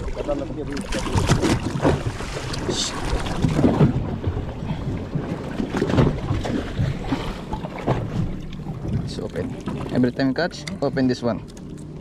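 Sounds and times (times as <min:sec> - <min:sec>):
low rumble of boat and wind: 0:00.0 - 0:12.0
fish thrashing and splashing: 0:00.2 - 0:09.9.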